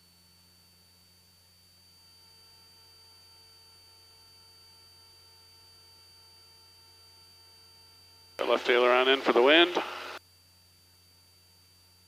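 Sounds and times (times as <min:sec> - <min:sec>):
faint electrical hum: 0:01.4 - 0:12.0.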